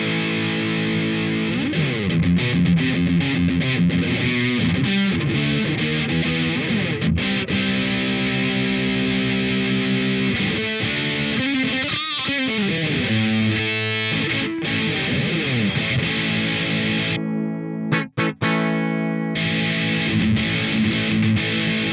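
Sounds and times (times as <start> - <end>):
distorted electric guitar: 0.0 - 21.9.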